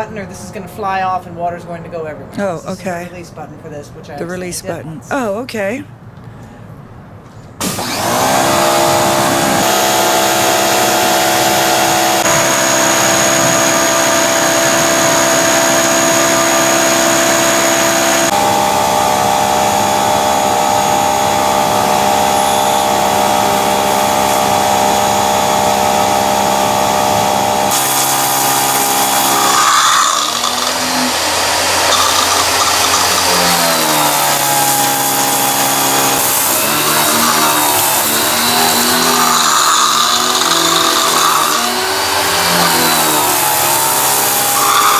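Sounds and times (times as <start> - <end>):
pressure washer motor whine: 7.6 - 44.9.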